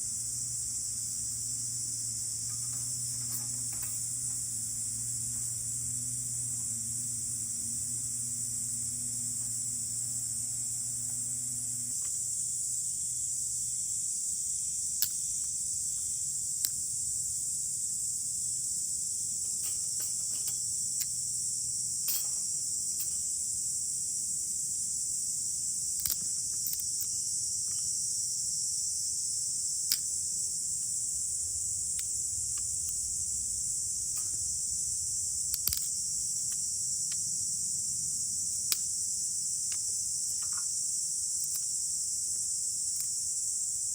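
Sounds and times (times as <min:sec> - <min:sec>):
insects chorus: 0:00.0 - 0:43.9.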